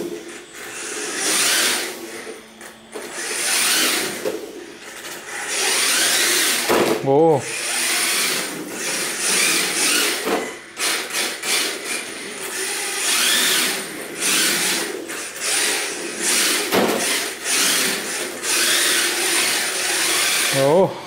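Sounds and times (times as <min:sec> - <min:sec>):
rc car motor whining: 0:00.0 - 0:20.9.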